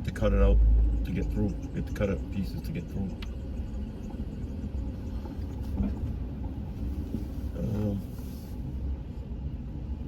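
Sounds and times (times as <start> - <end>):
vehicle engine and tires rumbling: 0.0 - 10.0.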